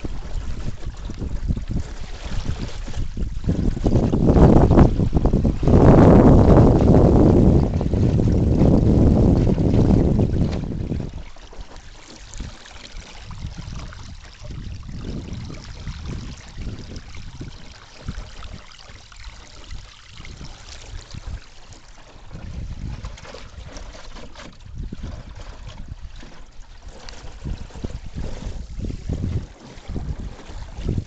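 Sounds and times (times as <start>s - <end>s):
water rushing along a hull: 0.0s - 31.0s
wind buffeting the microphone: 0.0s - 31.0s.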